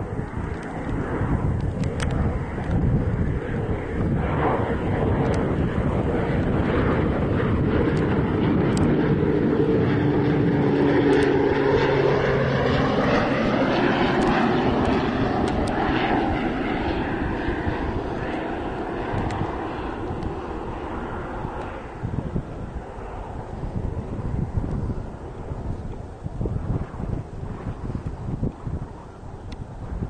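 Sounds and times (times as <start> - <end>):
propeller plane flying past: 0.0 - 30.0.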